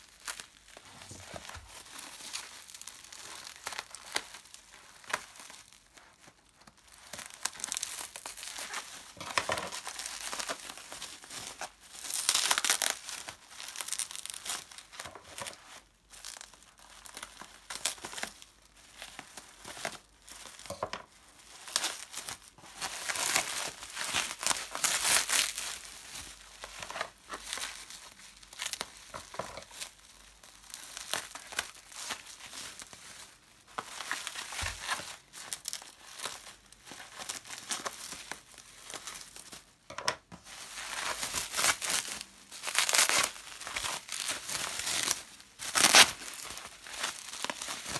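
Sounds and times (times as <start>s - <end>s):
bubble wrap crinkling: 0.0s - 47.9s.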